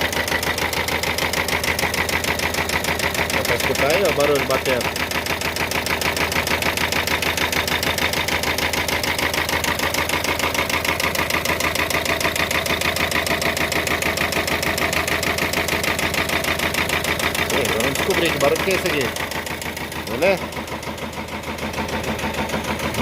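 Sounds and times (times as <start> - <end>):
engine idling with rapid knocking: 0.0 - 23.0.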